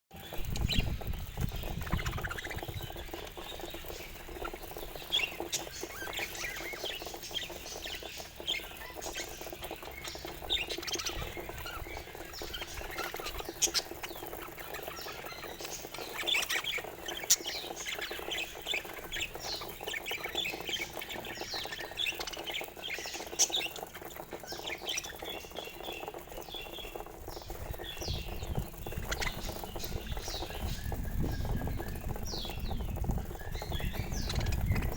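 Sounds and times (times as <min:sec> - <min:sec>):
budgies chirping and chattering: 0:00.1 - 0:34.9.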